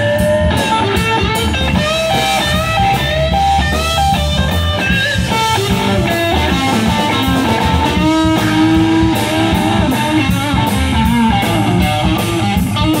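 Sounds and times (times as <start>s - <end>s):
electric guitar lead line: 0.0s - 13.0s
rhythm guitar: 0.0s - 13.0s
steady drum beat: 0.0s - 13.0s.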